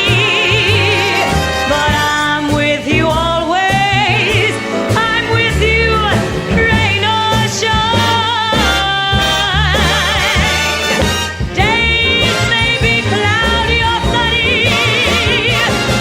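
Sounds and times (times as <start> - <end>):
woman singing with vibrato: 0.0 - 10.8, 11.5 - 16.0
orchestra with brass: 0.0 - 16.0.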